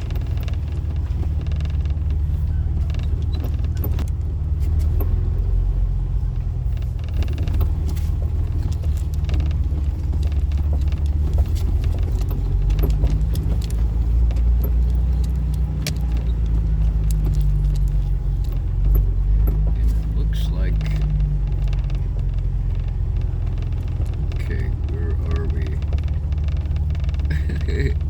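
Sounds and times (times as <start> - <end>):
car engine and road rumble: 0.0 - 28.0
light clicks and rattles: 0.0 - 28.0.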